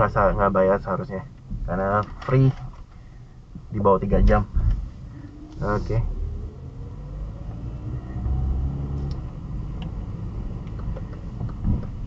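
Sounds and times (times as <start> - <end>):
car engine pulling uphill: 0.0 - 12.0
low road rumble: 0.0 - 12.0.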